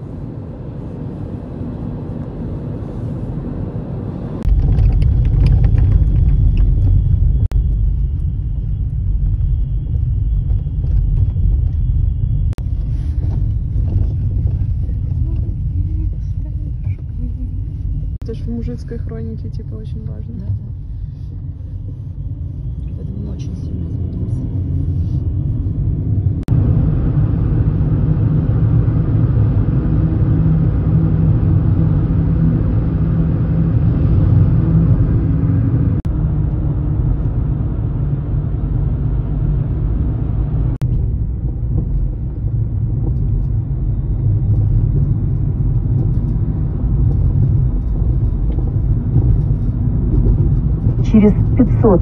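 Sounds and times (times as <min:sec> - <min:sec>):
car road and engine noise: 0:00.0 - 0:52.0.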